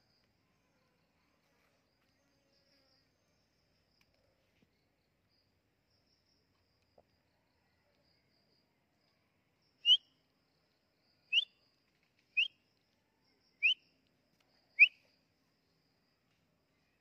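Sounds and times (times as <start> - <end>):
faint insect trill: 0.0 - 17.0.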